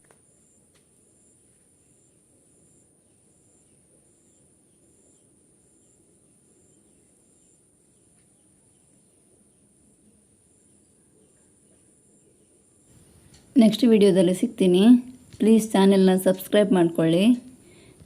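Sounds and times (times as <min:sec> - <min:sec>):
insect high chirp: 0:00.2 - 0:15.9.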